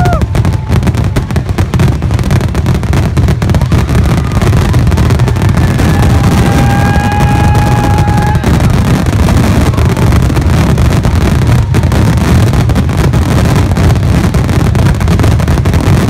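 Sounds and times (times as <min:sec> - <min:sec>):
fireworks barrage: 0:00.0 - 0:16.0.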